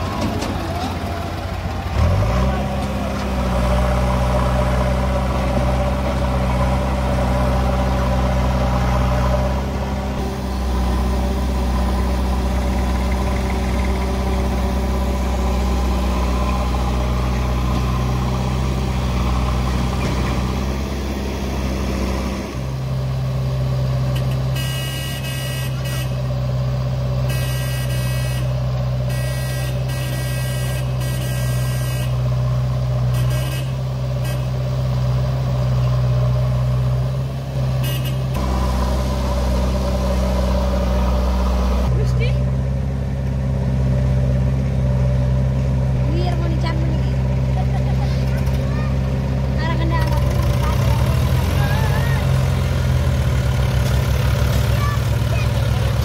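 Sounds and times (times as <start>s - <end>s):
backhoe loader diesel engine: 0.0s - 56.0s
tractor engine running: 0.0s - 56.0s.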